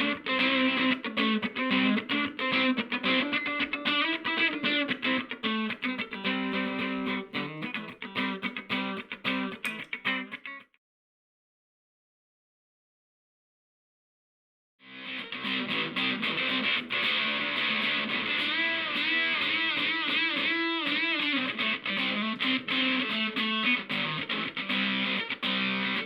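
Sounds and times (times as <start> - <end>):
distorted electric guitar riffs: 0.0 - 10.6, 14.9 - 26.0.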